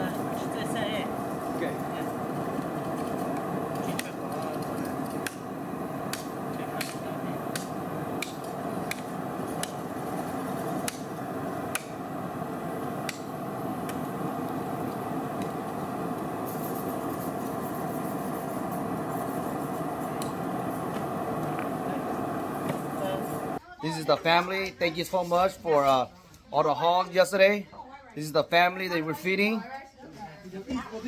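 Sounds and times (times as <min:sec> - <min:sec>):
background noise: 0:00.0 - 0:31.0.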